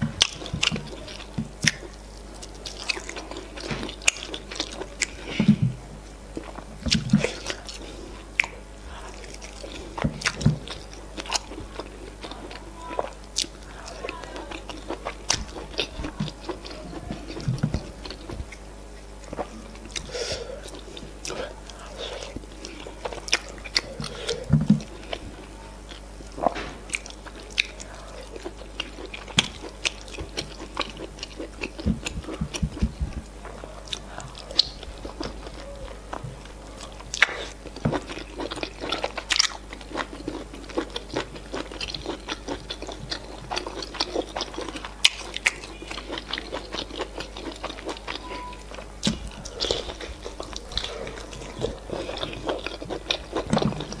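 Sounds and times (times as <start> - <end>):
wet chewing and lip smacking: 0.2 - 5.6, 6.3 - 54.0.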